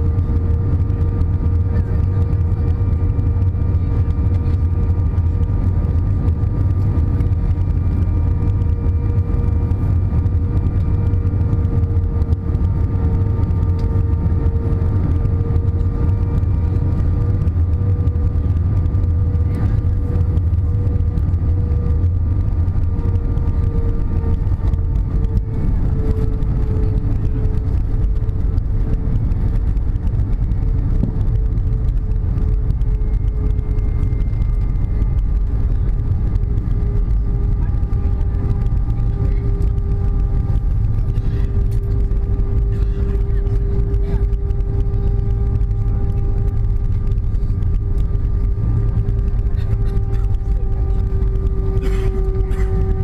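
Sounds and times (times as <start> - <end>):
jet engine and airflow rumble: 0.0 - 53.0.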